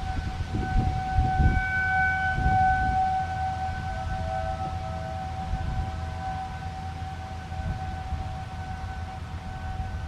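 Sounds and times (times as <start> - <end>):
siren steady tone: 0.0 - 10.0.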